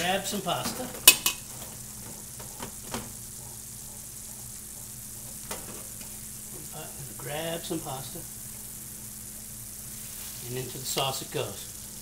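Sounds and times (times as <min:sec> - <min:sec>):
sauce sizzling in a frying pan: 0:00.0 - 0:12.0.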